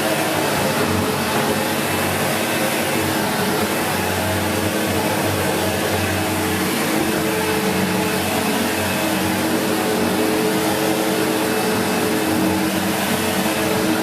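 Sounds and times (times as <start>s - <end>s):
upright vacuum cleaner on carpet: 0.0s - 14.0s.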